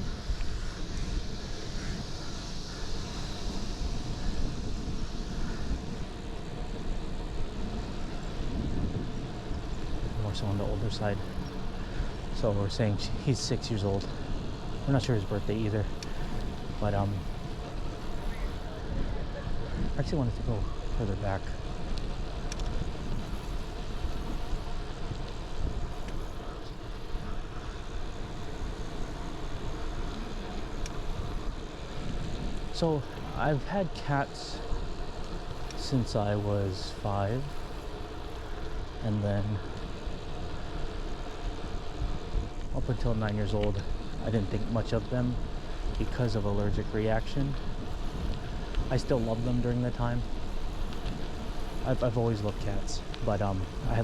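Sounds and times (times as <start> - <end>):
road and riding hiss: 0.0 - 54.0
wind buffeting microphone: 0.0 - 54.0.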